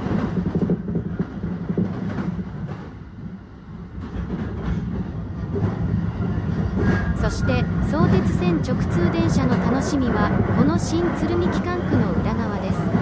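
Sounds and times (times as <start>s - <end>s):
train wheel clacks: 0.0s - 13.0s
train wheels rumbling on rail: 0.0s - 13.0s.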